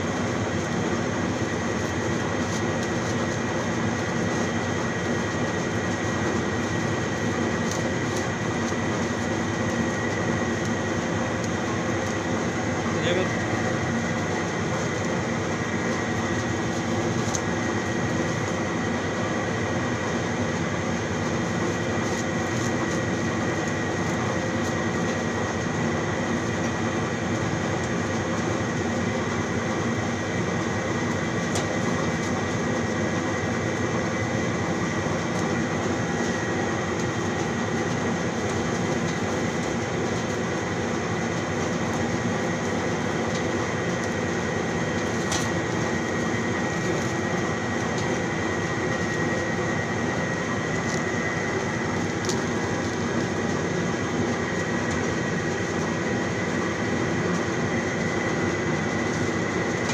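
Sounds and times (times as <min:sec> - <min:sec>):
mechanical drone with high whine: 0:00.0 - 0:59.9.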